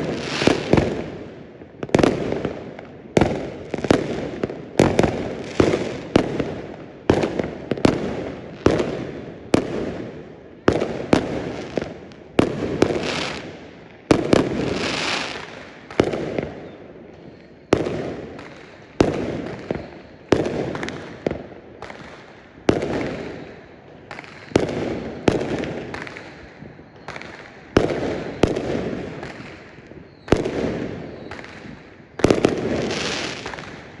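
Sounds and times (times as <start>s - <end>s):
fireworks banging: 0.0s - 34.0s.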